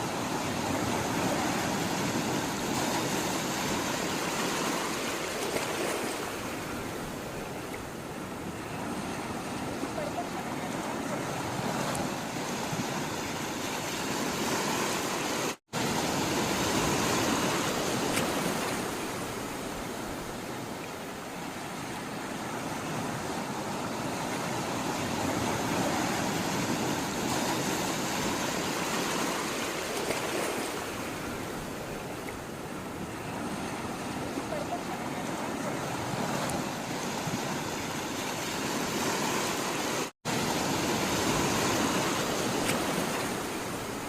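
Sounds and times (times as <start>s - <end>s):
sea water rushing: 0.0s - 44.0s.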